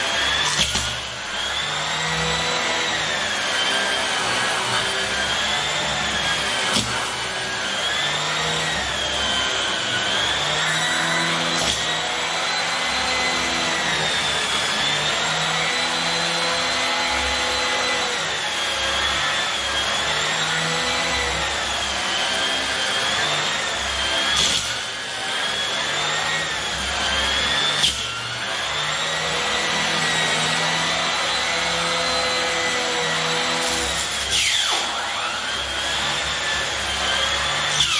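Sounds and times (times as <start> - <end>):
vacuum cleaner on carpet: 0.0 - 37.9.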